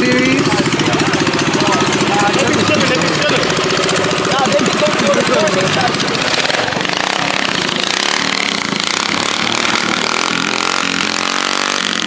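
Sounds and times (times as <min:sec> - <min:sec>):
car engine running rough: 0:00.0 - 0:12.0.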